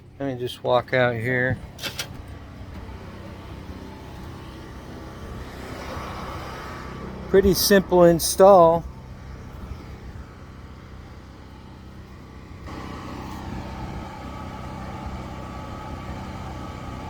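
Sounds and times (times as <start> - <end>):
engine-like hum: 0.0 - 17.0.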